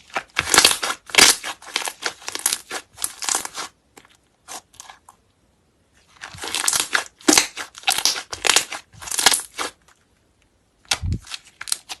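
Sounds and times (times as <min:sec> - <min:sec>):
slime squishing by hand: 0:00.0 - 0:05.3, 0:05.9 - 0:12.0.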